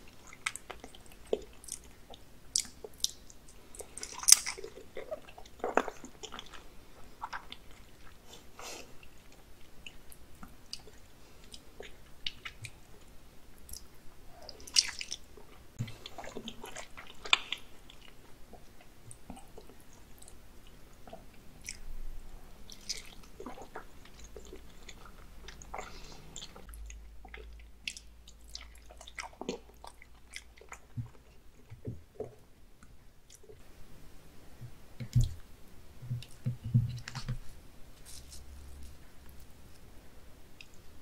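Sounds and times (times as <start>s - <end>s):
wet chewing sounds: 0.0s - 33.7s.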